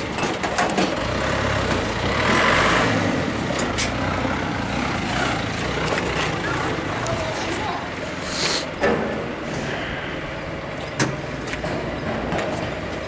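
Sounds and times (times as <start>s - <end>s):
machine drone: 0.0s - 13.0s.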